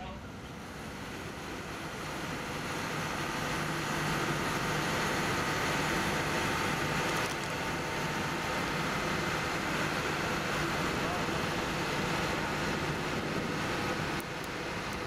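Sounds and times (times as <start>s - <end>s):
crane mechanical hum: 0.0s - 15.0s.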